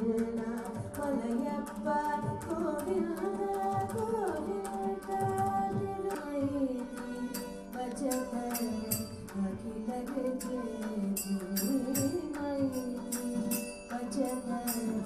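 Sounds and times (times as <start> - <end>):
hand drum strokes: 2.1 - 15.0.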